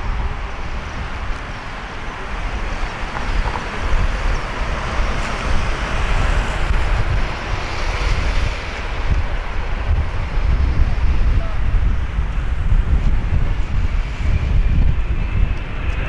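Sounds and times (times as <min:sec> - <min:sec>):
jet airliner noise: 0:00.0 - 0:16.0
wind buffeting microphone: 0:00.0 - 0:16.0.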